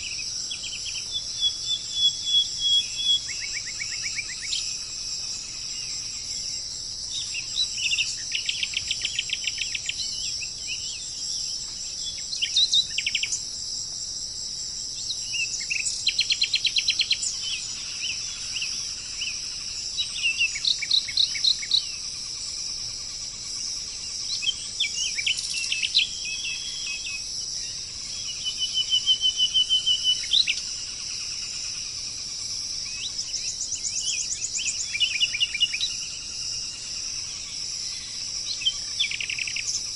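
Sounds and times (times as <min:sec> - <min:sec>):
constant high-pitched hiss: 0:00.0 - 0:39.9
songbirds trilling and chirping: 0:00.0 - 0:39.9.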